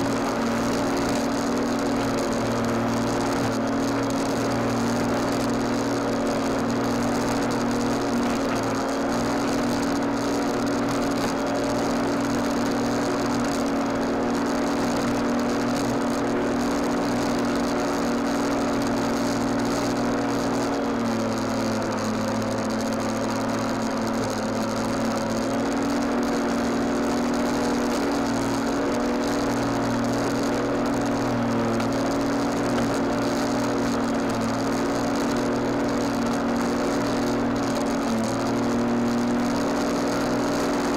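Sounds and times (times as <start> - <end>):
grass cutting hiss: 0.0 - 40.9
lawnmower running: 0.0 - 40.9.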